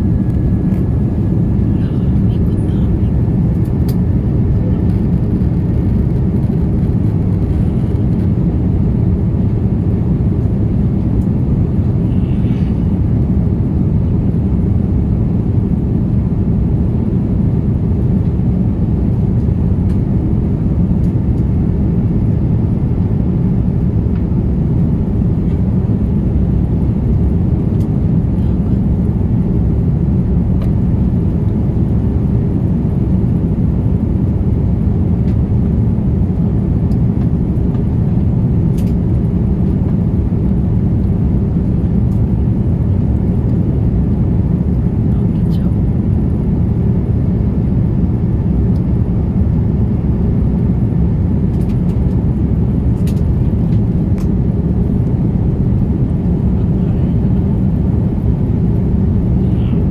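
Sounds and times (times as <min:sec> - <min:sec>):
jet airliner cabin rumble: 0:00.0 - 0:59.9.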